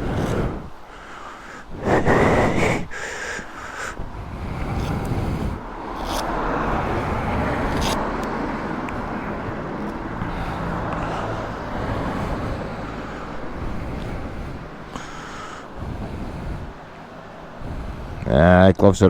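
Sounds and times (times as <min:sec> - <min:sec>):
traffic tyre hiss on wet road: 0:00.0 - 0:18.7.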